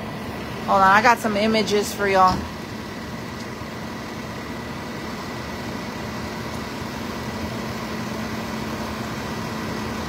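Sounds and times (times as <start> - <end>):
engine idling: 0.0 - 10.0
high steady whine: 0.0 - 10.0.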